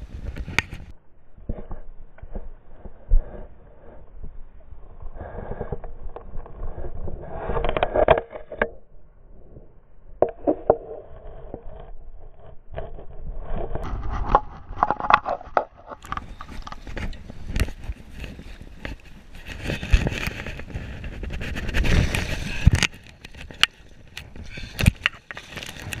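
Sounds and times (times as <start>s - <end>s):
camera rubbing against clothing: 0.0s - 8.6s, 10.3s - 26.0s.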